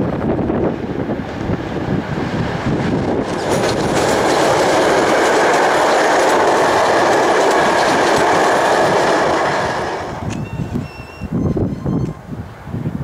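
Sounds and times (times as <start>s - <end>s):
train wheels rolling on rails: 0.0s - 12.7s.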